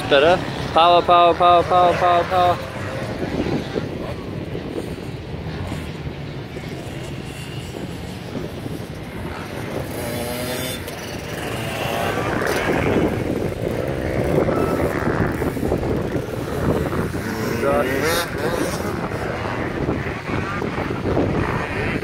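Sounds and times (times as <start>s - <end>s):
motocross bike engines: 0.0s - 22.0s.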